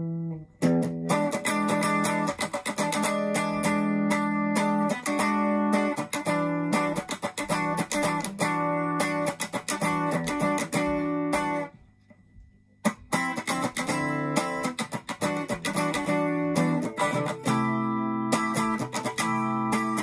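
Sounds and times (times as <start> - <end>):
electric guitar chords and notes: 0.0 - 11.8, 12.8 - 20.0.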